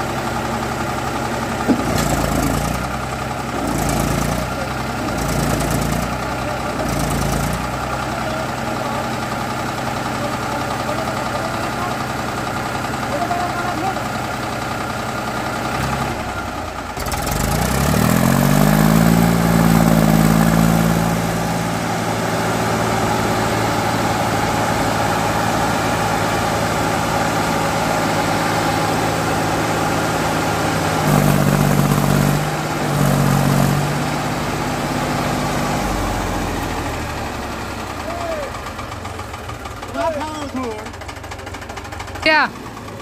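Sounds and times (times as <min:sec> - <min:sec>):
tractor diesel engine revving: 0:00.0 - 0:43.0.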